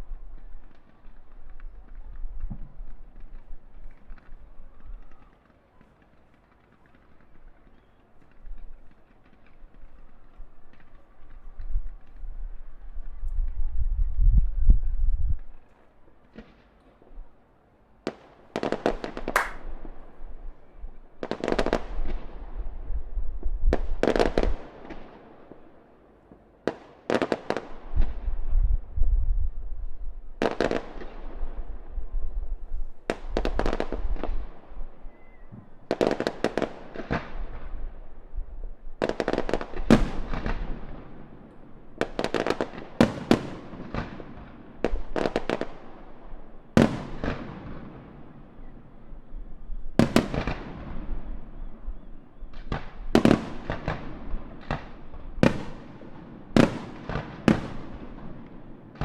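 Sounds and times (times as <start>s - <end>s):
fireworks bursting with echoing rumble: 0.0s - 13.7s, 18.0s - 25.7s, 26.7s - 59.0s.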